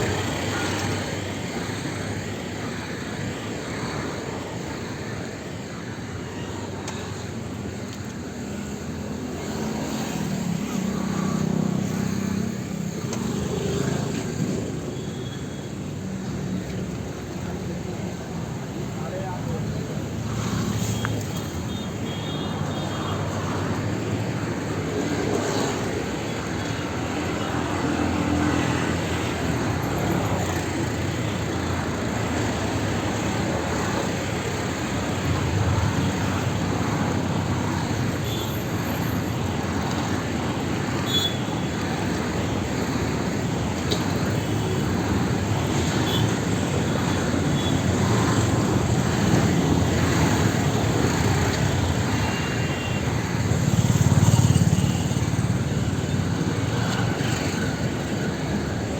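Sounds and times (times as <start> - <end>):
vehicle engines and road noise: 0.0 - 58.9.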